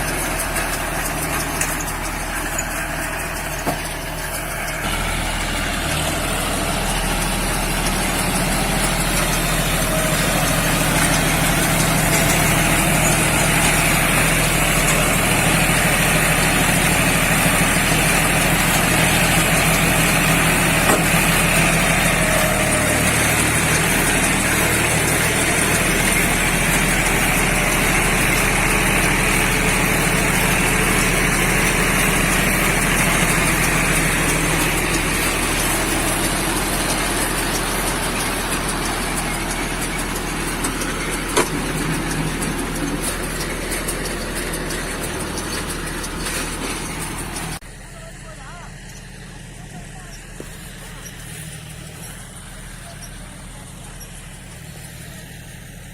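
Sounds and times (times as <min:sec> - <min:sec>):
baler engine running steadily: 0:00.0 - 0:55.9.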